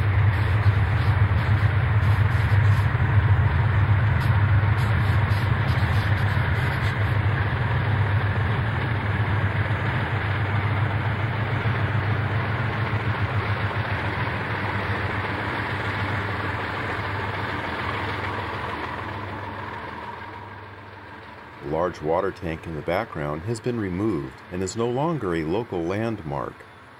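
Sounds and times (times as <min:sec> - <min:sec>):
diesel locomotive engines droning: 0:00.0 - 0:26.9
train rolling noise: 0:00.0 - 0:26.9.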